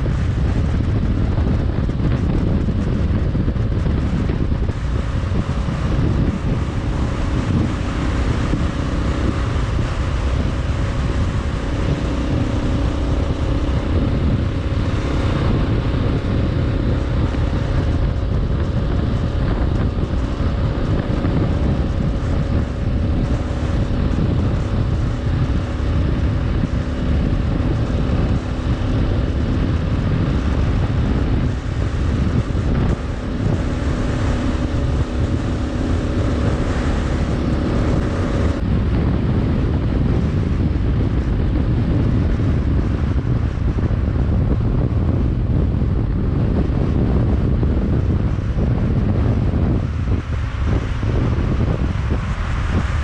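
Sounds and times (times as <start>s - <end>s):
motorcycle engine drone: 0.0s - 53.0s
wind buffeting microphone: 0.0s - 53.0s.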